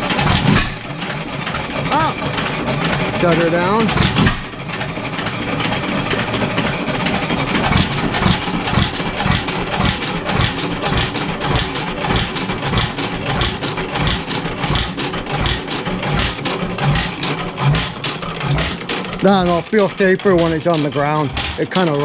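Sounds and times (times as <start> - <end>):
hit-and-miss engine knocking: 0.0 - 22.0.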